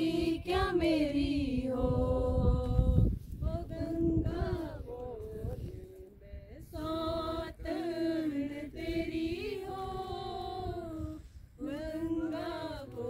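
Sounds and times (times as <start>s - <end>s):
woman singing devotional song: 0.0s - 13.0s.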